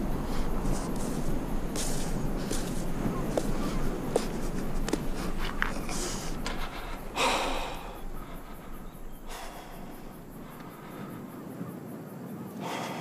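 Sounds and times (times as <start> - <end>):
man breathing heavily: 0.0 - 11.5, 12.6 - 13.0.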